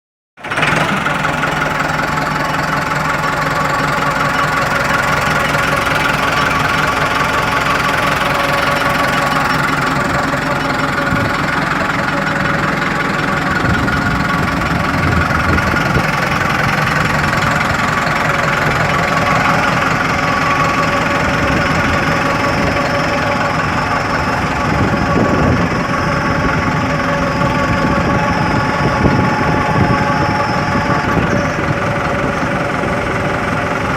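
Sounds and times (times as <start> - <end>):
tractor diesel engine running: 0.4 - 33.9.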